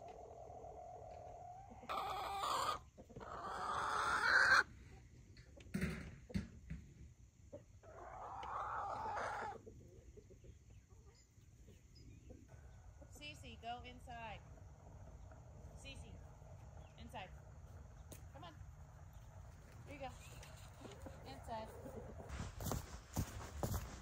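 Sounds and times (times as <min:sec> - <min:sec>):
chickens calling: 0:00.0 - 0:05.8, 0:07.4 - 0:24.0.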